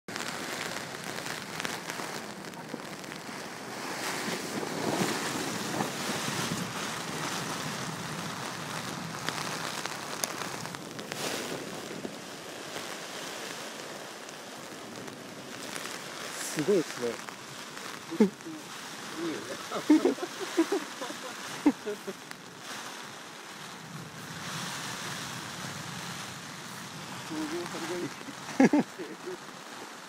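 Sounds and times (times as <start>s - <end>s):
storm wind and rain on tent: 0.0s - 30.0s.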